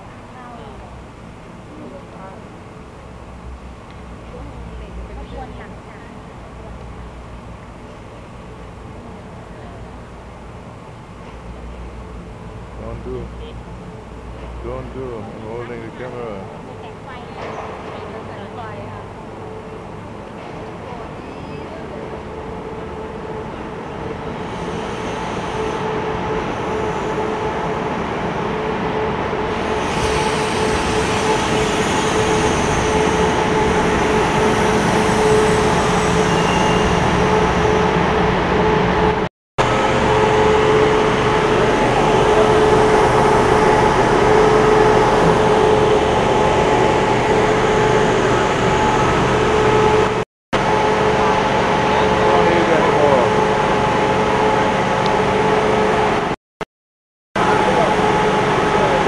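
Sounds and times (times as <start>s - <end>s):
passenger train running: 0.0s - 56.4s, 57.4s - 59.0s.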